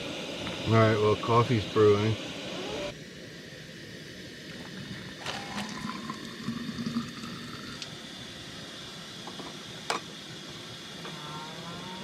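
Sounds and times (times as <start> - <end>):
water heating hiss: 0.0 - 12.0.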